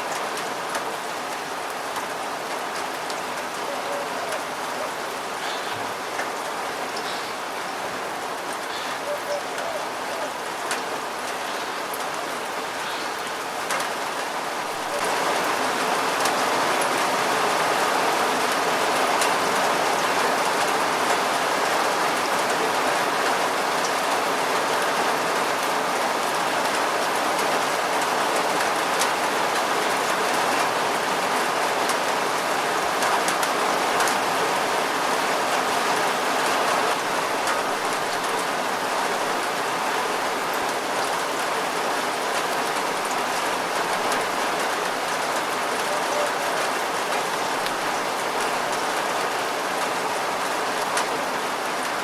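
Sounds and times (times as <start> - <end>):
rain pattering on surfaces: 0.0 - 52.0.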